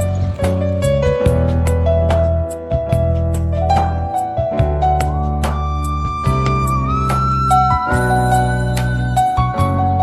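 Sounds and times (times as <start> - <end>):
soft gentle instrumental music: 0.0 - 10.0.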